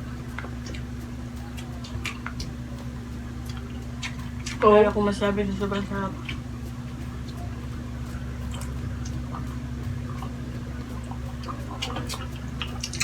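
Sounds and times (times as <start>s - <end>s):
steady low hum: 0.0s - 13.0s
wet chewing and mouth smacking: 0.1s - 4.6s, 6.2s - 13.0s.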